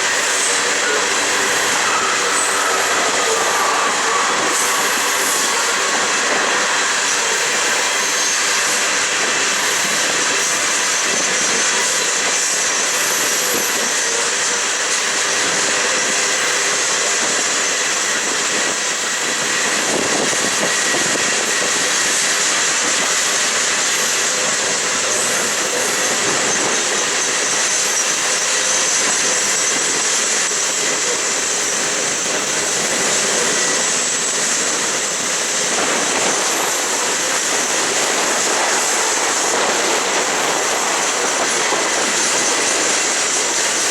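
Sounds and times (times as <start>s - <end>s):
high wheel squeal: 0.0s - 43.9s
train wheels rumbling on rail: 0.0s - 43.9s.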